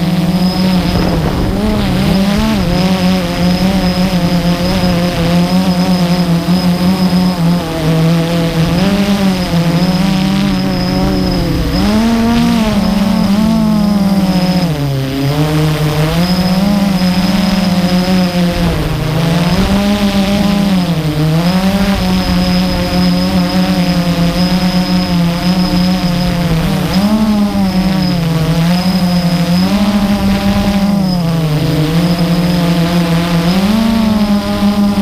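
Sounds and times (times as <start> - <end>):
drone motors and propellers whirring: 0.0 - 35.0
thin high whine: 0.0 - 35.0.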